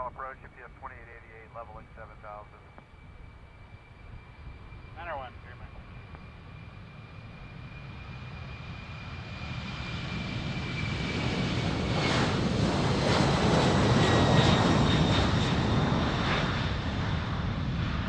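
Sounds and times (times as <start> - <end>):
airplane engine passing: 0.0 - 18.0.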